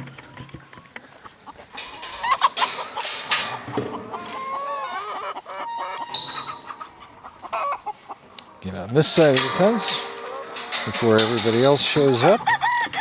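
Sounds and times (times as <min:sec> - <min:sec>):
chickens clucking: 0:00.4 - 0:11.5.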